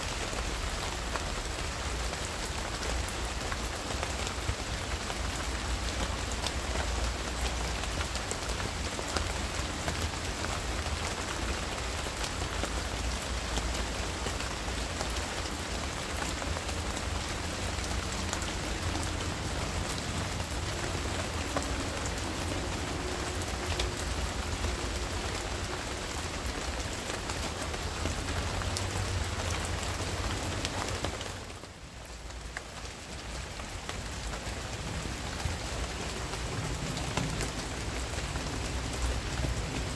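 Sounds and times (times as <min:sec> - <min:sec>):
rain shower pattering: 0:00.0 - 0:39.9.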